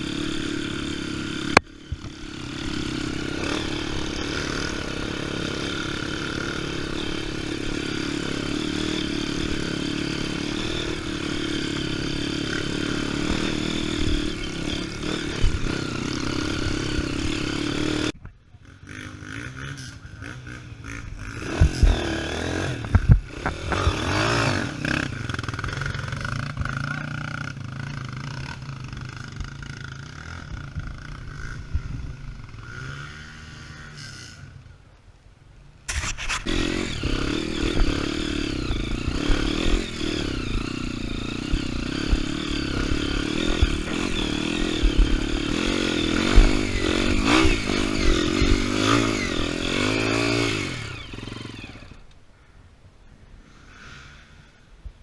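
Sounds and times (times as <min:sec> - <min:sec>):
motorcycle engine running: 0:00.0 - 0:34.7, 0:35.9 - 0:52.0.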